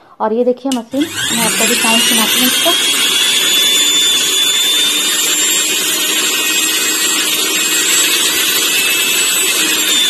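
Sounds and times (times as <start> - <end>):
mixer grinder motor whining: 0.7 - 10.0.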